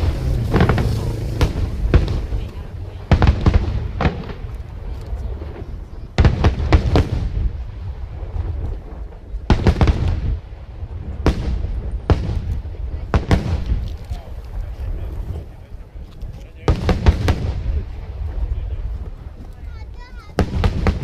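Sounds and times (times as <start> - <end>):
firework bangs: 0.0 - 21.0
rumbling echo: 0.0 - 21.0.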